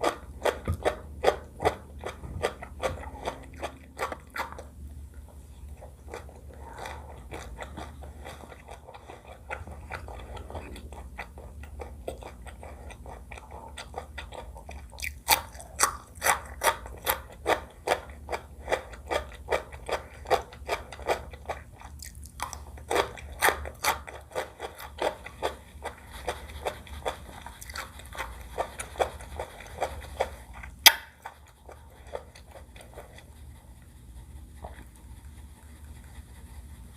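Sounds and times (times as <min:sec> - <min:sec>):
chewing with wet mouth clicks: 0:00.0 - 0:36.9.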